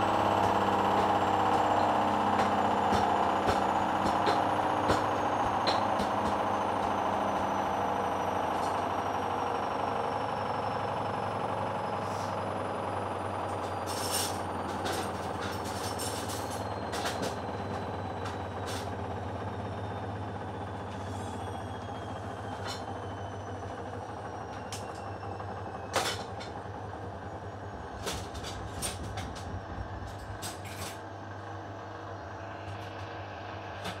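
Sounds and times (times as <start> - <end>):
washing machine spinning down: 0.0 - 34.0.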